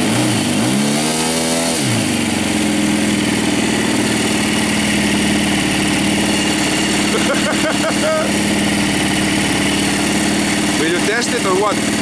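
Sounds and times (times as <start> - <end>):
engine revving: 0.0 - 12.0
model plane engine idling: 2.0 - 12.0.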